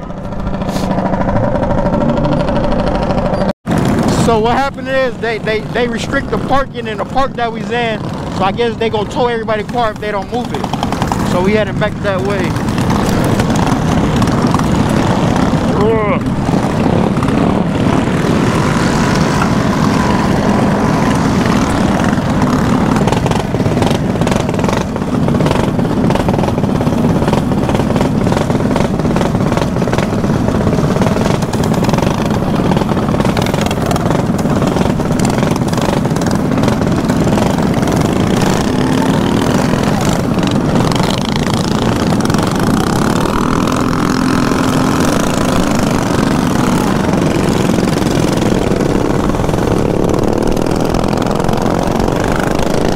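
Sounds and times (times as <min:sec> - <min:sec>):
rush of wind noise: 0:00.0 - 0:52.9
small motorbike engines running: 0:00.0 - 0:52.9.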